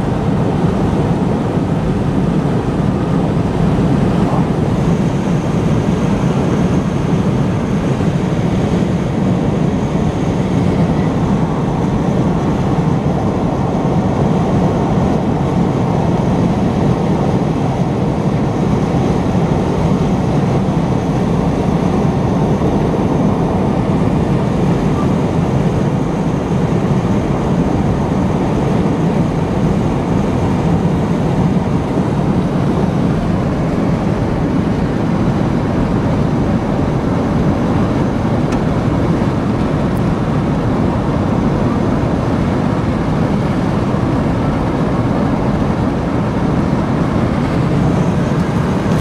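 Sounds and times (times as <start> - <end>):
car road and engine drone: 0.0 - 49.0.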